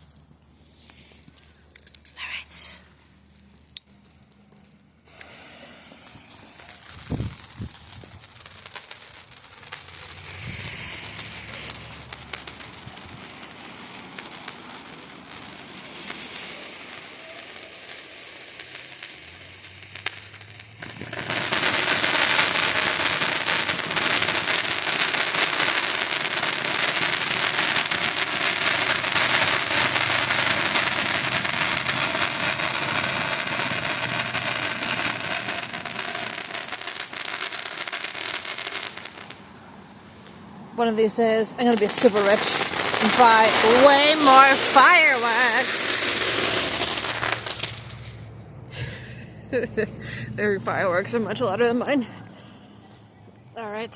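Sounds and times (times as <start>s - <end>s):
quiet hiss with faint crackles: 0.0s - 48.3s
firework crackling: 0.0s - 53.9s.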